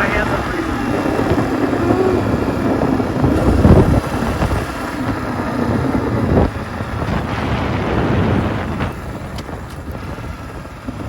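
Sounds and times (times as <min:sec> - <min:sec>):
dirt bike engine revving: 0:00.0 - 0:11.0
wind noise on microphone: 0:00.0 - 0:11.0.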